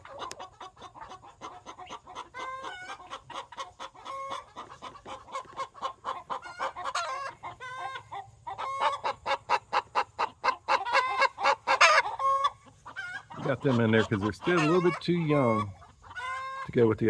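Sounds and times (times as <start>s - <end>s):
young chickens clucking: 0.0s - 17.0s.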